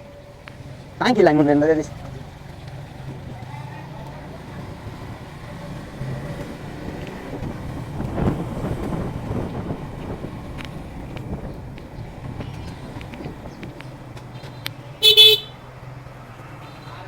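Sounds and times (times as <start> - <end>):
motorcycle engine running: 0.0 - 16.0
road and traffic noise: 0.0 - 17.0.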